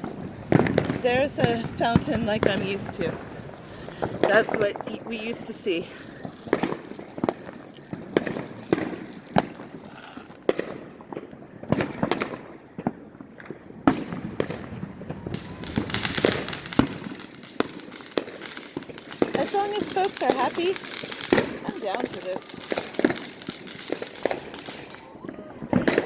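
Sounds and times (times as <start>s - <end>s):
fireworks bangs and pops: 0.0s - 26.0s
fireworks crackling: 0.0s - 26.0s.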